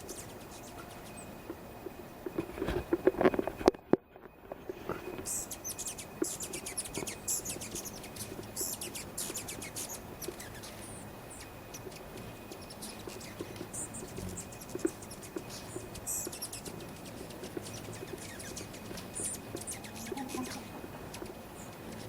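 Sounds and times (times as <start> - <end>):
hummingbirds squeaking and chittering: 0.0 - 3.7, 4.5 - 22.0.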